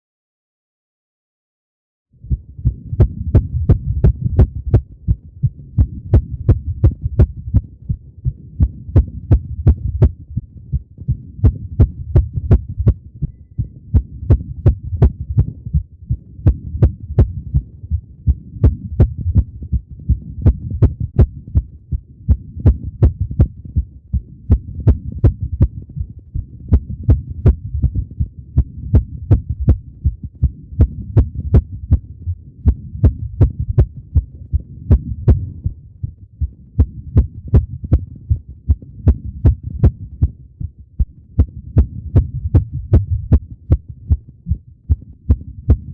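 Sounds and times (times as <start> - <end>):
rapid heartbeat thumps: 2.2 - 45.9.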